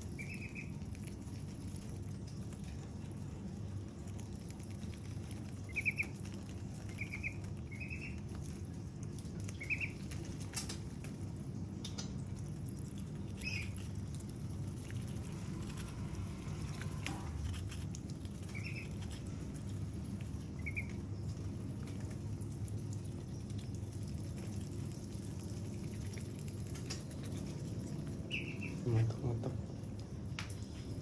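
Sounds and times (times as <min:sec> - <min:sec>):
ducks pecking with bill clicks: 0:00.0 - 0:31.0
steady low background hum: 0:00.0 - 0:31.0.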